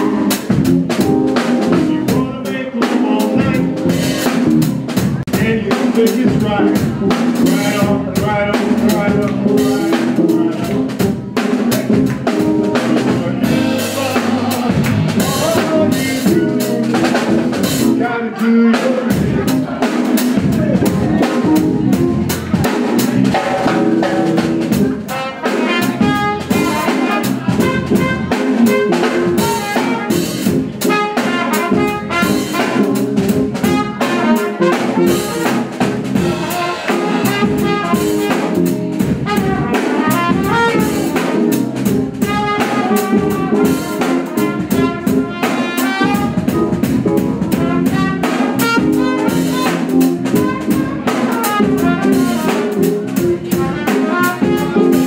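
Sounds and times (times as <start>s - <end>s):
drum kit: 0.0s - 55.0s
jazz trumpet playing: 0.0s - 55.0s.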